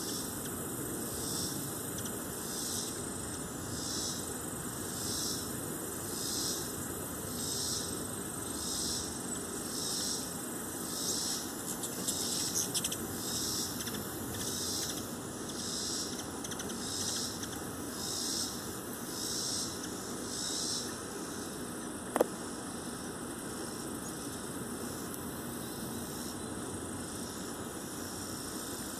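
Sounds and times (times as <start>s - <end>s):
insects singing high-pitched: 0.0s - 28.9s.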